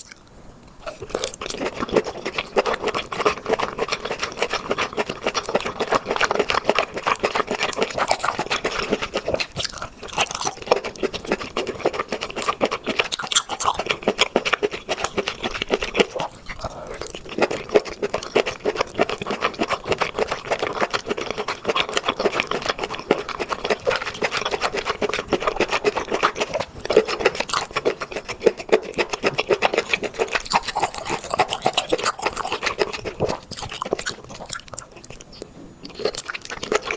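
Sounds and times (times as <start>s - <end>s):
chewing seafood crunches: 0.0s - 36.9s.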